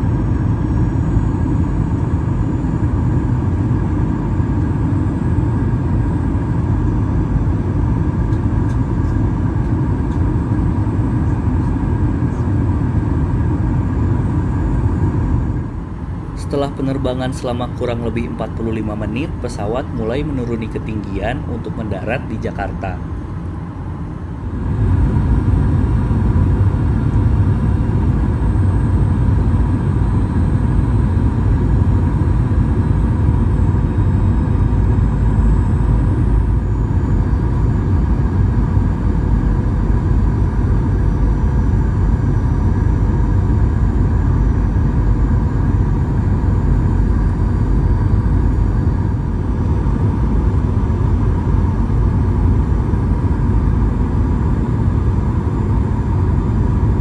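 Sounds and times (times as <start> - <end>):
airplane cabin rumble: 0.0 - 57.0
faint steady whine: 0.0 - 57.0.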